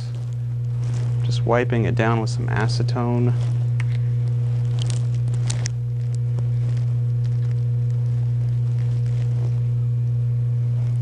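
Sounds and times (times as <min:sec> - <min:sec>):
paper towel rustling: 0:00.0 - 0:09.8
steady low hum: 0:00.0 - 0:11.0.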